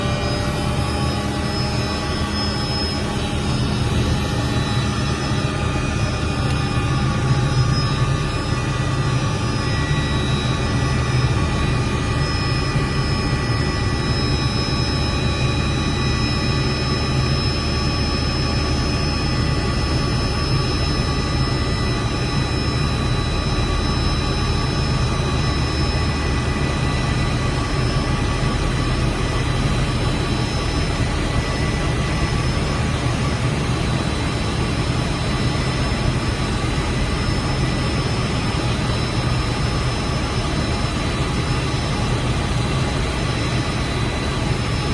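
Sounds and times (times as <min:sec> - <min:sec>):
helicopter engine and rotor: 0:00.0 - 0:44.9
high turbine whine: 0:00.0 - 0:44.9.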